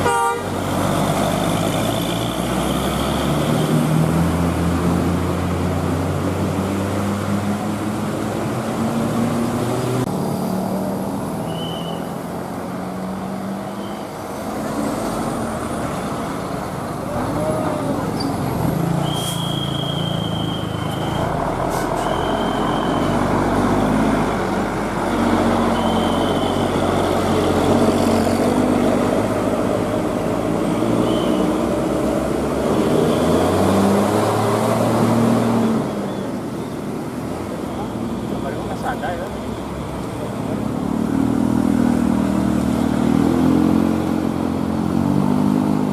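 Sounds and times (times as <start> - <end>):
heavy bus engines: 0.0 - 45.9
road and traffic noise: 0.0 - 45.9.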